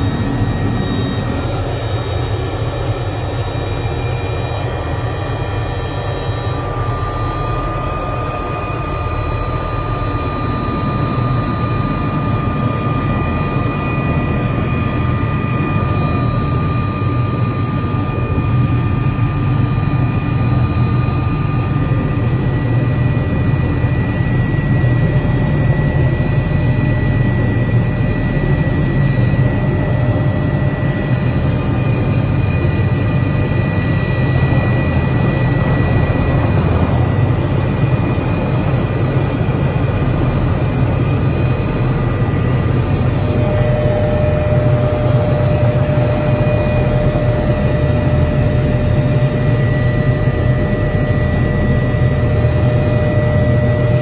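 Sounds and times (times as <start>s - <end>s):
helicopter engine whine: 0.0s - 54.0s
helicopter rotor rumble: 0.0s - 54.0s.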